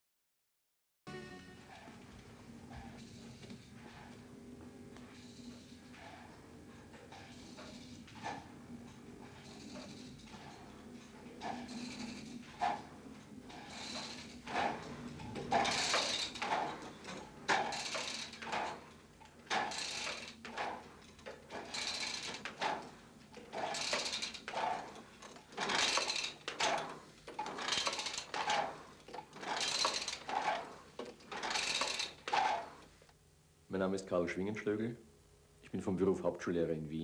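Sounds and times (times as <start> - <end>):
rowing machine whooshing: 1.2 - 32.9.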